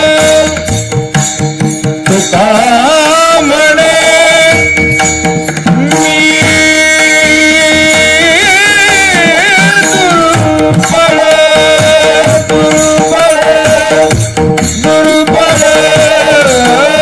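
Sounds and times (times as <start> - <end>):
tabla playing: 0.0 - 17.0.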